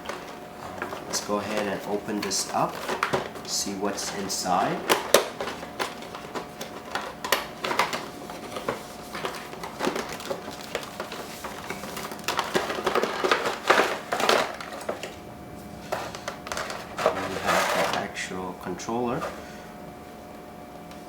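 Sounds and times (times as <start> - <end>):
packaging rustling and crinkling: 0.0 - 19.4.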